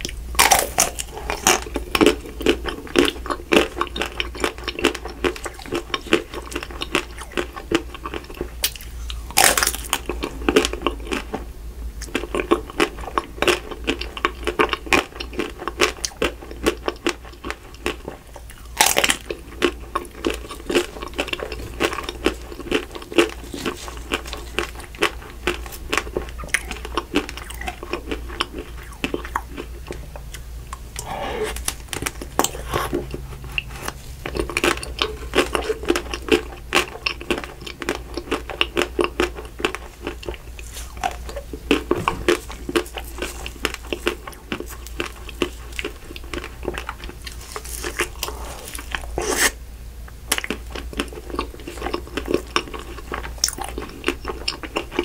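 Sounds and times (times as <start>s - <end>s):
chocolate shell crunching while chewing: 0.0s - 55.0s.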